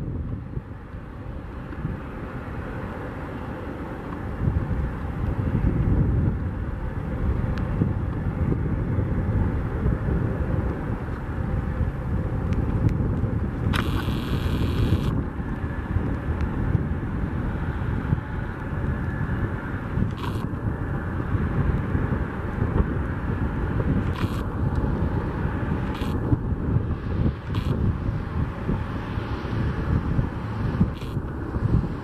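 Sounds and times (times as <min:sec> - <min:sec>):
jet engines rumbling: 0:00.0 - 0:32.0
wind buffeting microphone: 0:00.0 - 0:32.0.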